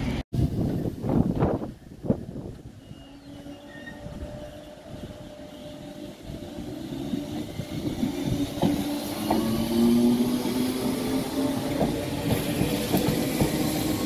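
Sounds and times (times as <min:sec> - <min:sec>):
electric train motor whine: 0:02.0 - 0:14.0
wheels clicking over rail joints: 0:02.4 - 0:14.0.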